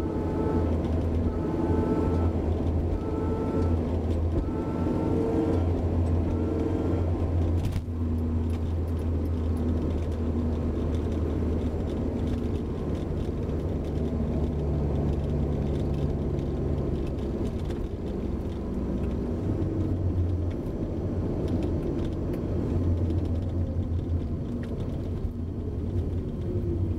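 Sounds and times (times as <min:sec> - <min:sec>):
drivetrain and road rumble: 0:00.0 - 0:26.9.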